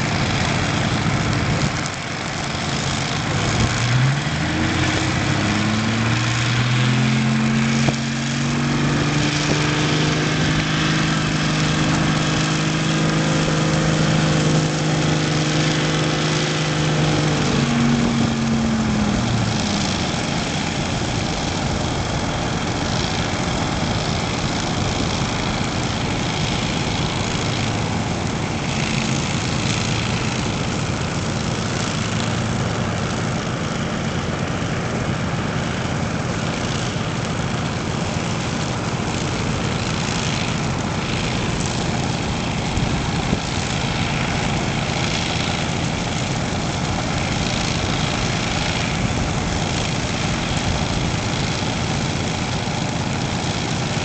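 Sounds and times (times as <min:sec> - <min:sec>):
engine hum: 0:00.0 - 0:54.0
steady rushing noise: 0:00.0 - 0:54.0.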